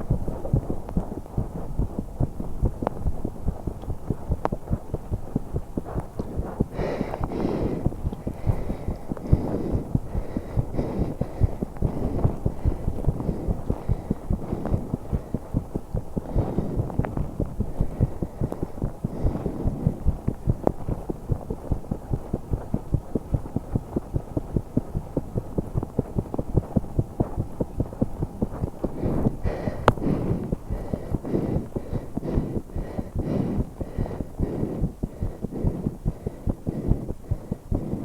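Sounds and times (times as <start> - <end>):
fast heartbeat: 0.0 - 38.0
heavy breathing: 0.0 - 38.0.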